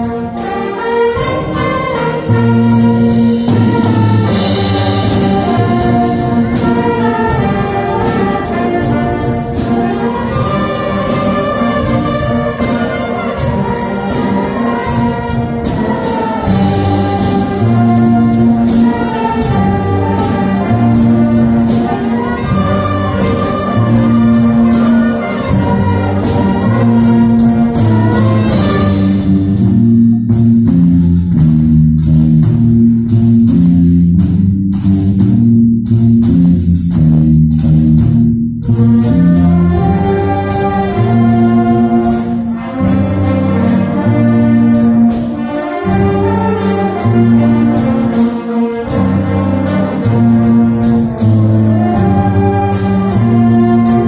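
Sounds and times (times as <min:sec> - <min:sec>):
flutes and brass melody: 0:00.0 - 0:31.5, 0:38.3 - 0:54.0
jazz band playing: 0:00.0 - 0:54.0
steady drum beat: 0:00.0 - 0:54.0
bass line: 0:01.2 - 0:54.0.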